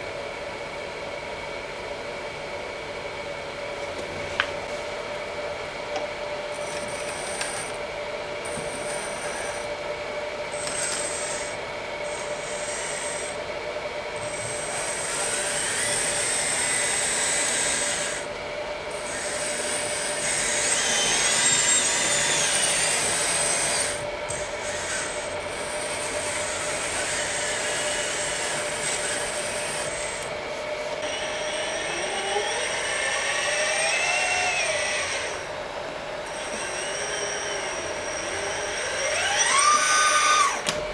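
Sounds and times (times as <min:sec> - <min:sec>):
hydraulic pump whining: 0:03.6 - 0:40.9.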